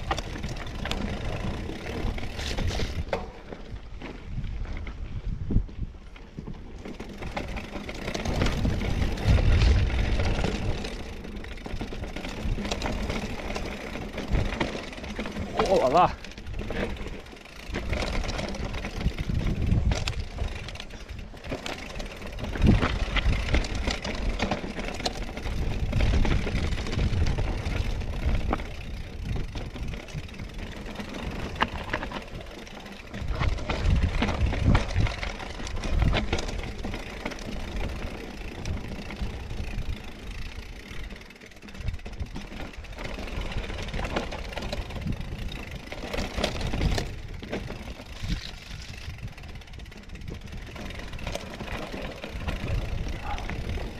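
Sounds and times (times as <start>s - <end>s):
bike rattling clicks and knocks: 0.0s - 53.9s
bike tyre noise: 0.0s - 53.9s
wind rumble on microphone: 0.0s - 53.9s.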